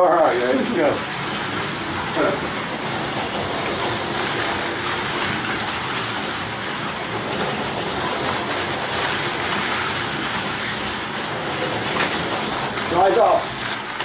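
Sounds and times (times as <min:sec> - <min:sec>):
slot cars whirring and rattling: 0:00.0 - 0:14.0.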